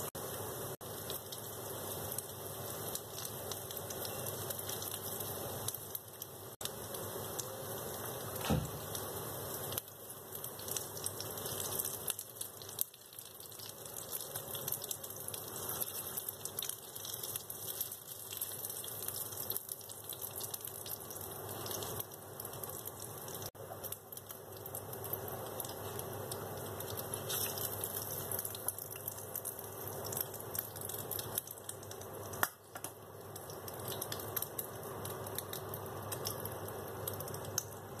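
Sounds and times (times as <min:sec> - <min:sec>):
oil sizzling in a frying pan: 0:00.0 - 0:38.0.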